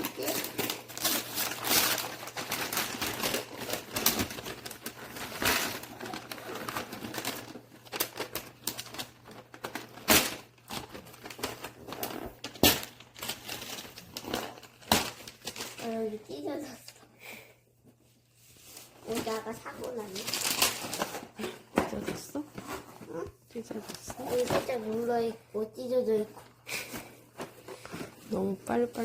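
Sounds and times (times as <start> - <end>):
packaging rustling: 0.0 - 16.7, 18.8 - 25.3.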